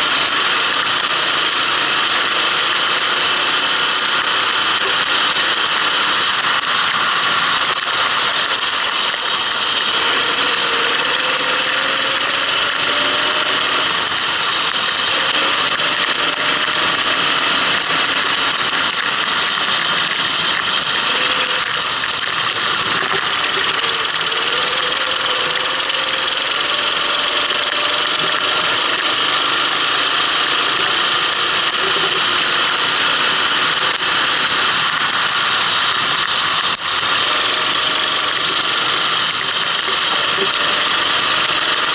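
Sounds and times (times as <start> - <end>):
go-kart engine revving: 0.0 - 41.9.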